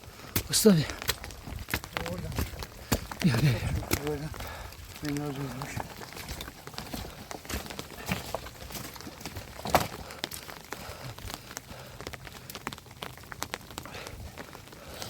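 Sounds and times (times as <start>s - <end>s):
rain falling: 0.0s - 15.0s
raindrops ticking on surfaces: 0.0s - 15.0s.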